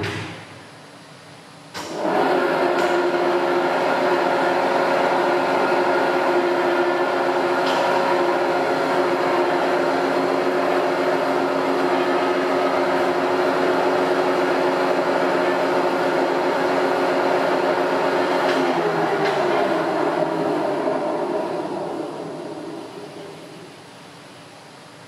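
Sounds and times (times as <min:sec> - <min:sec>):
mixer mechanical hum: 0:00.0 - 0:25.0.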